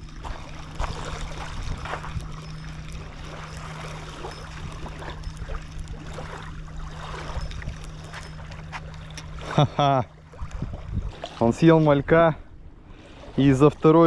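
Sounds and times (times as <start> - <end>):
steady low hum: 0.0 - 14.0
water splashing and lapping: 0.0 - 14.0.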